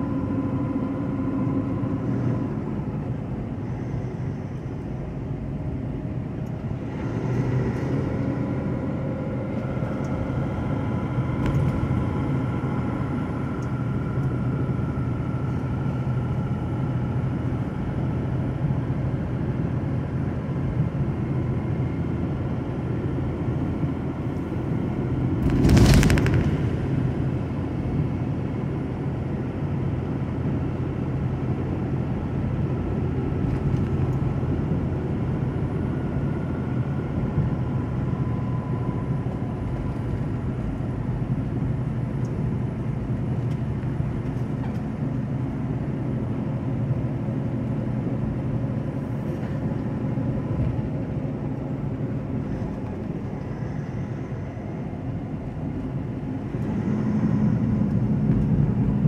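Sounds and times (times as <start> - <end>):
truck diesel engine and road noise: 0.0 - 59.0.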